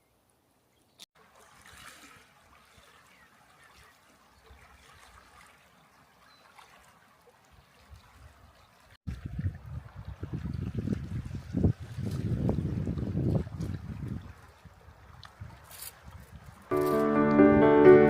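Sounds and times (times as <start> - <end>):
water trickling and lapping: 1.0 - 16.7.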